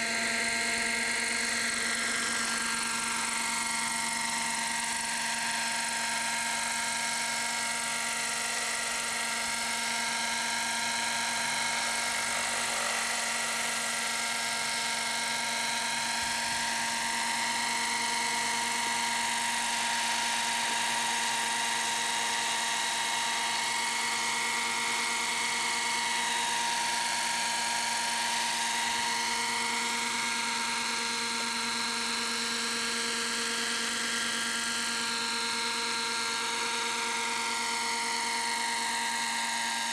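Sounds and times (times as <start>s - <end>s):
model helicopter hovering: 0.0s - 39.9s.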